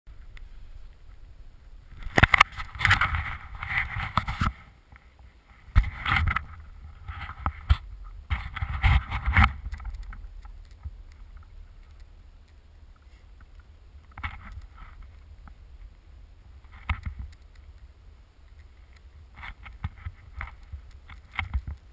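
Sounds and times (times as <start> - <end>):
wind rumble on microphone: 0.1 - 21.9.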